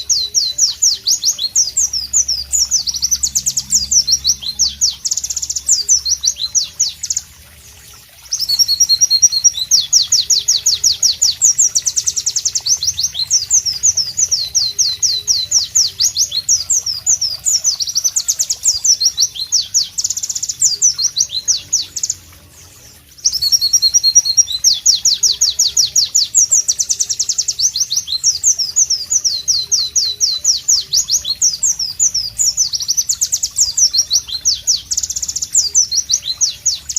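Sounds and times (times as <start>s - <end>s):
bird singing rapid high notes: 0.0s - 7.4s, 8.2s - 36.9s.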